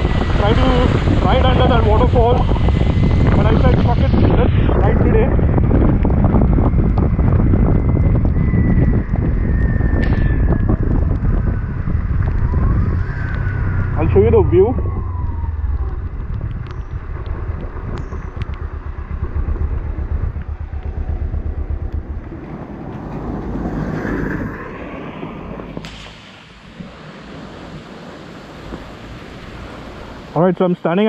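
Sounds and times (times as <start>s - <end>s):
motorcycle engine rumble: 0.0s - 26.7s
wind noise on microphone: 0.0s - 30.5s.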